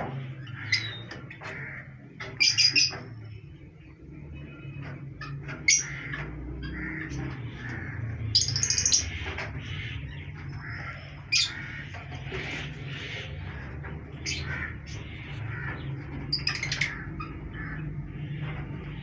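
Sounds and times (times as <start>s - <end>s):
parrots squawking: 0.0s - 3.2s, 4.6s - 19.0s.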